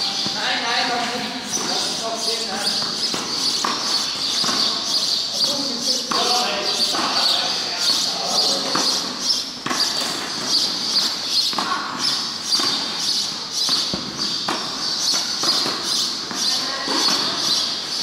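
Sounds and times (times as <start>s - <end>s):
ball bouncing on clay court: 0.0s - 18.0s
tennis ball struck by racquets: 1.0s - 5.2s, 6.0s - 18.0s.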